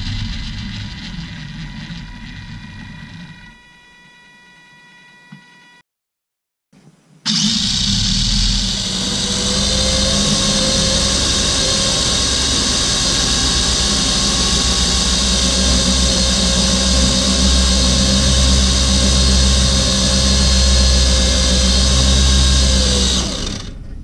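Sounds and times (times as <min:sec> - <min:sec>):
rc car motor whine: 0:00.0 - 0:05.8, 0:07.3 - 0:23.8.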